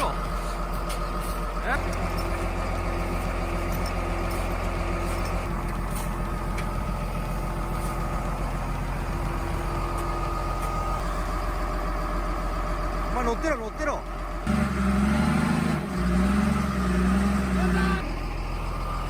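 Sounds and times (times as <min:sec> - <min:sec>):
large vehicle engine running: 0:00.0 - 0:19.0.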